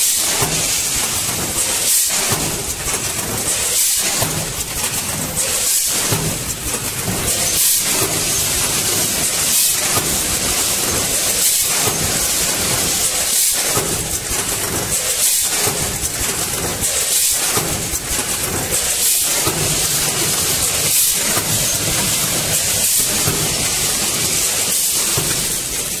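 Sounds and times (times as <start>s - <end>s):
packing machine hissing: 0.0s - 26.0s.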